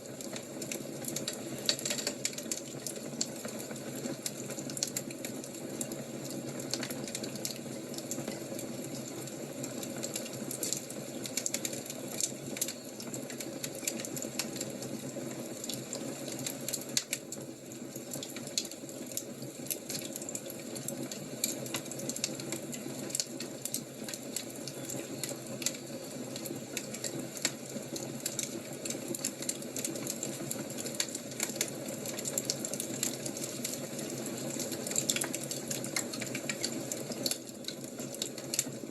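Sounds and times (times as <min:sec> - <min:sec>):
fire crackling and popping: 0:00.0 - 0:38.9.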